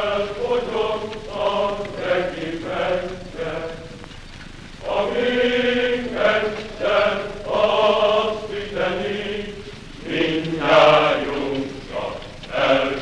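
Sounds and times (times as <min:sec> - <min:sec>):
slow chant-like singing: 0:00.0 - 0:13.0.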